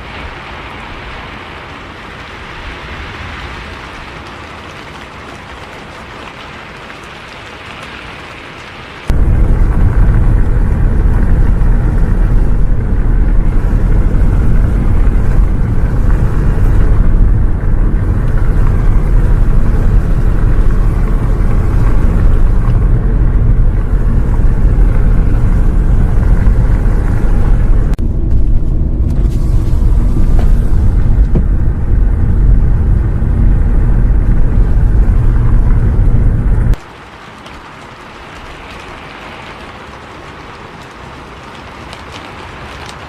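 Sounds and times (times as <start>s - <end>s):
bus engine and road noise: 0.0s - 43.0s.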